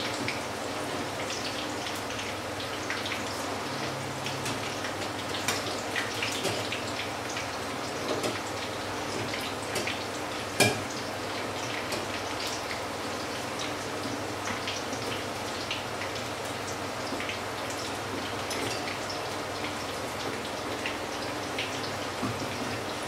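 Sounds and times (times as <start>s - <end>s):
oil sizzling and crackling: 0.0s - 23.0s.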